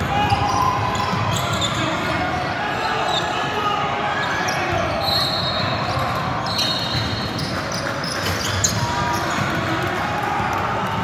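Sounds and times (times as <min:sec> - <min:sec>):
sneakers squeaking: 0:00.0 - 0:03.4, 0:04.1 - 0:09.8
gym hall background noise: 0:00.0 - 0:11.0.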